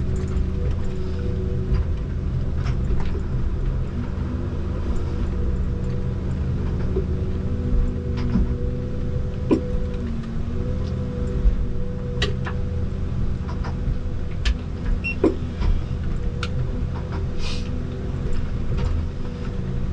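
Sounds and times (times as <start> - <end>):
harvester engine and hydraulics: 0.0 - 19.9.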